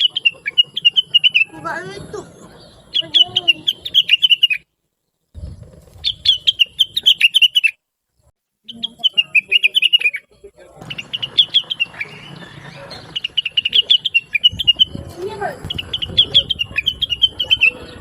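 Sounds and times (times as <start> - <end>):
bird singing high chirps: 0.0 - 7.8, 8.6 - 18.0.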